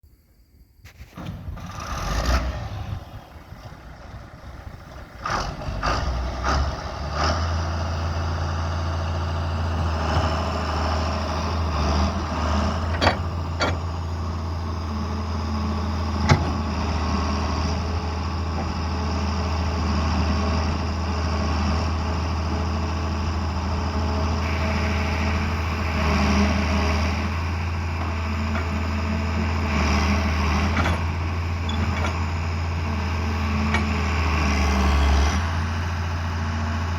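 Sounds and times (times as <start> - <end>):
excavator diesel engine drone: 1.0 - 36.9.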